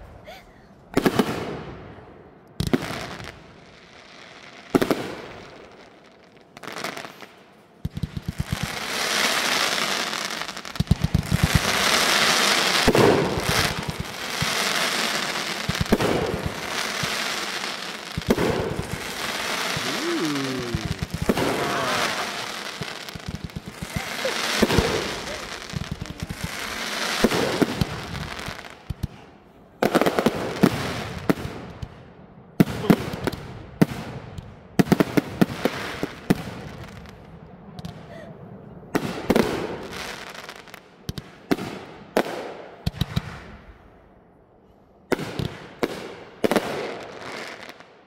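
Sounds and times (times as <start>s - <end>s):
fireworks bangs and pops: 1.0s - 1.7s, 2.6s - 3.4s, 4.1s - 29.2s, 29.8s - 32.0s, 32.6s - 38.1s, 39.0s - 43.7s, 45.1s - 47.9s.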